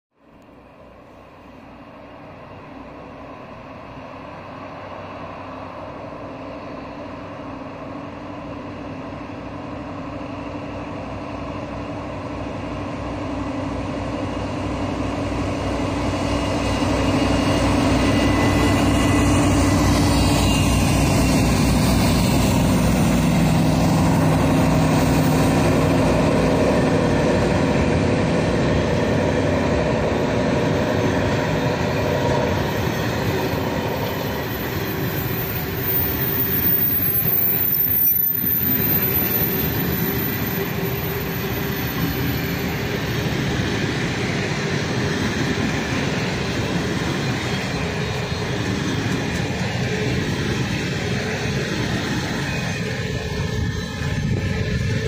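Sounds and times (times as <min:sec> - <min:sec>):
diesel locomotives droning: 0:00.2 - 0:55.0.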